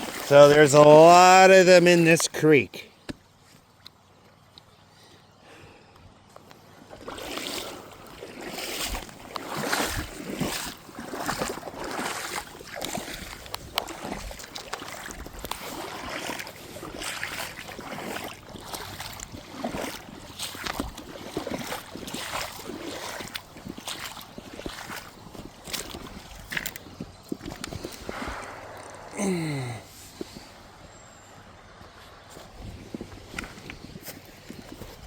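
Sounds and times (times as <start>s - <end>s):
water splashing and sloshing: 0.0s - 5.1s, 6.4s - 35.0s.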